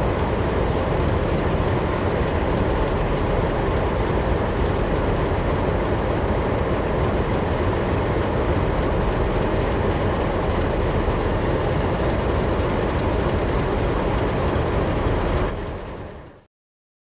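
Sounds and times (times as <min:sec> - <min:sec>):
diesel locomotive engines idling: 0:00.0 - 0:16.2.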